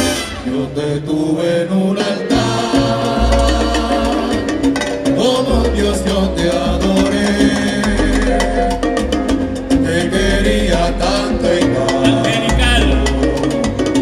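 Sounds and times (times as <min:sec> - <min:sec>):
congas: 0:00.0 - 0:14.0
salsa band playing: 0:00.0 - 0:14.0
lead and chorus singing: 0:00.3 - 0:08.5, 0:09.8 - 0:13.8.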